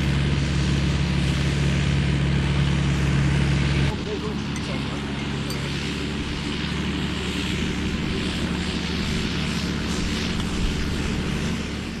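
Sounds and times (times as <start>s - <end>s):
machinery noise: 0.0s - 12.0s
tractor diesel engine running: 0.0s - 12.0s.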